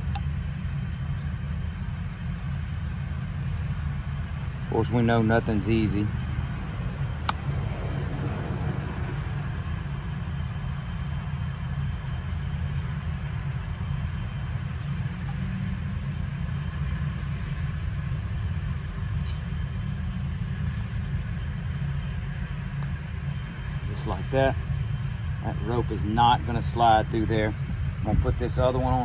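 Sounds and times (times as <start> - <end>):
low machine rumble: 0.0 - 29.0.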